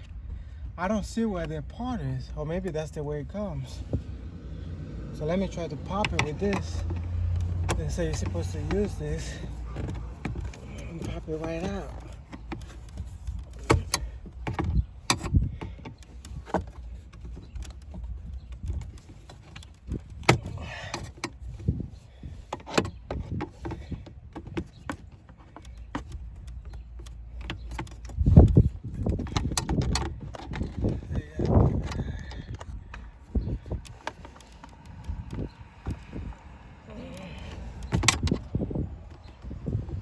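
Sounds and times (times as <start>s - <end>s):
plastic trim being pried: 5.3s - 36.3s, 37.0s - 40.0s.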